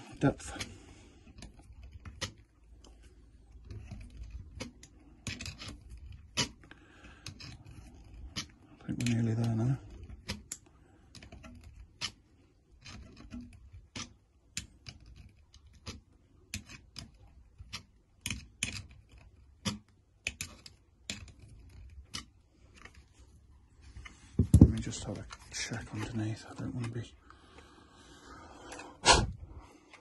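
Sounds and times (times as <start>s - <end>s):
screwdriver clicking and creaking: 0.4s - 30.0s.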